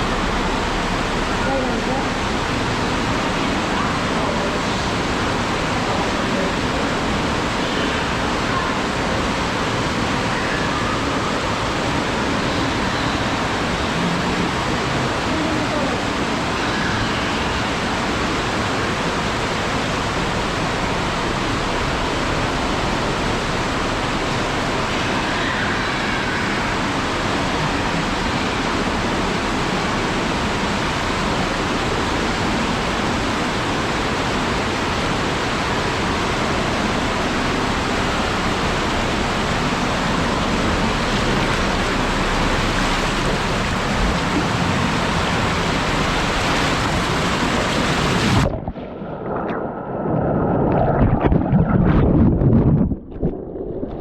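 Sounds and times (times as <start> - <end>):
water rushing down a waterslide: 0.0 - 54.0.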